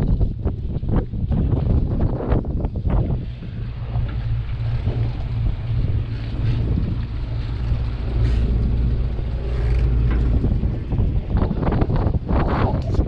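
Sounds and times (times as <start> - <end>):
rushing wind: 0.0 - 13.0
water noise: 0.0 - 13.0
ferry engine droning: 0.7 - 13.0.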